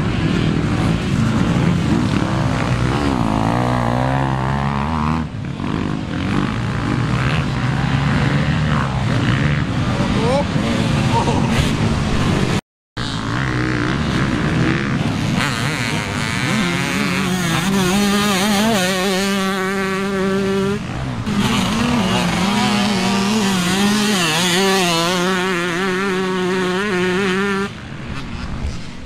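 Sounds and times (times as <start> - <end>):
dirt bike engines buzzing: 0.0 - 29.0.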